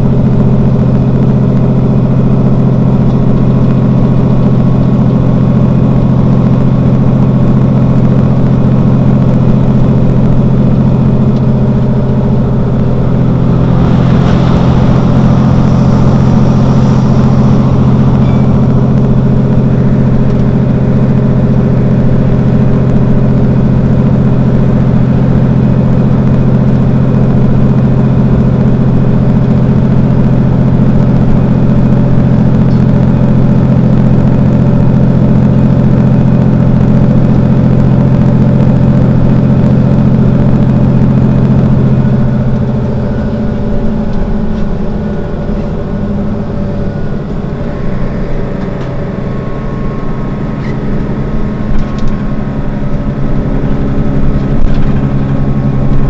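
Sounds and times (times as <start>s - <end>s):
bus diesel engine idling: 0.0s - 56.0s
rushing noise: 0.0s - 56.0s.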